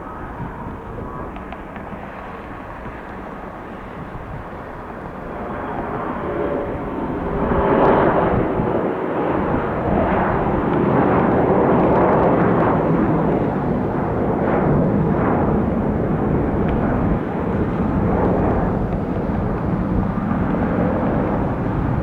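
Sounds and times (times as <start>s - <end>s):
jet airliner engines passing: 0.0s - 22.0s.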